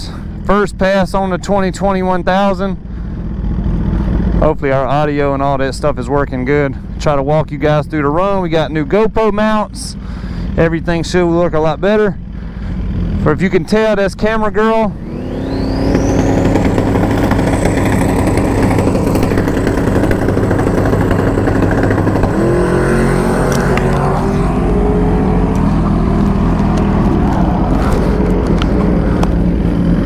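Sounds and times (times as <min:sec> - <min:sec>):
motorbike engine idling: 0:00.0 - 0:08.2, 0:09.8 - 0:30.0.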